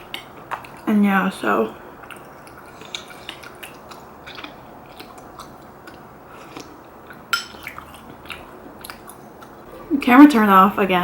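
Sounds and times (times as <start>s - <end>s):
person chewing food: 0.0s - 0.9s, 1.8s - 9.9s.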